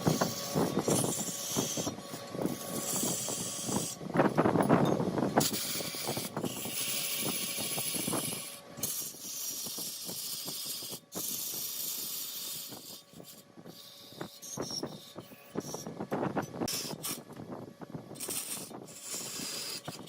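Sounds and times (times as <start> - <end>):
wood lathe tool hissing scrape: 0.0 - 4.0, 5.4 - 15.9, 18.2 - 20.0.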